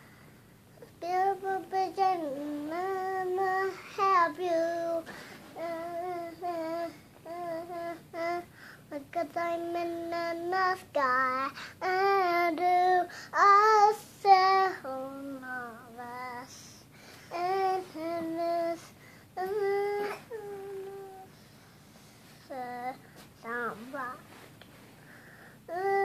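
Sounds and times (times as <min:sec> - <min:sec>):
toddler girl singing: 0:00.8 - 0:21.3, 0:22.4 - 0:24.4, 0:25.7 - 0:26.0.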